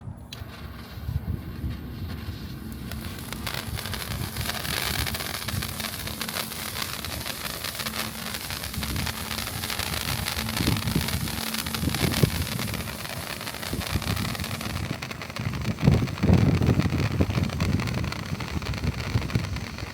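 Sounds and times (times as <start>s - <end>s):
wind rumbling on microphone: 0.0s - 19.9s
firework stick hissing and crackling: 0.1s - 19.9s.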